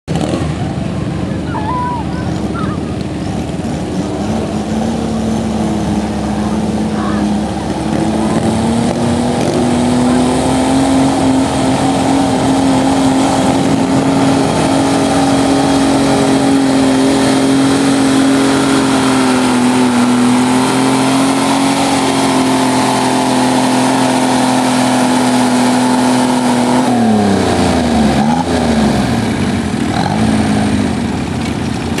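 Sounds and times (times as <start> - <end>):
tractor engine running under load: 0.1 - 32.0.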